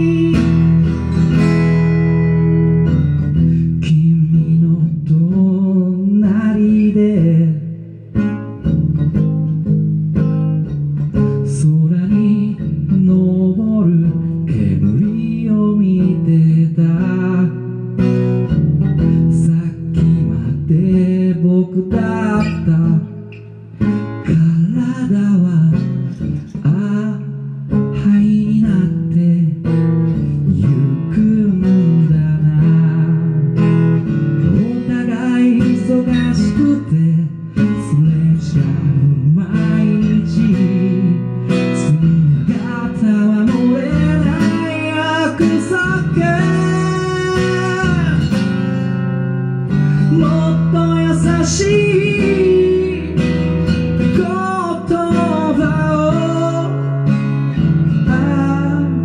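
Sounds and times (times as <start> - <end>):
man singing: 0.0 - 9.7, 10.3 - 59.0
strummed acoustic guitar: 0.0 - 59.0.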